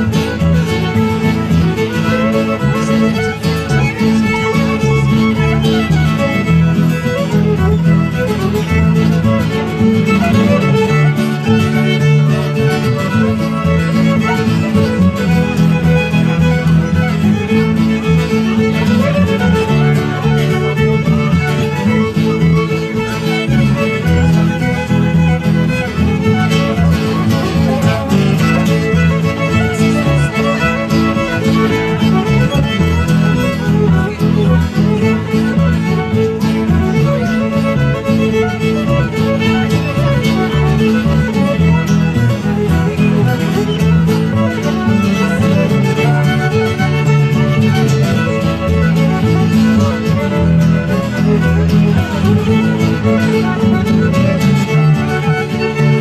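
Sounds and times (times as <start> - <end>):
fiddle-led dance band: 0.0 - 56.0
strummed guitar: 0.0 - 56.0.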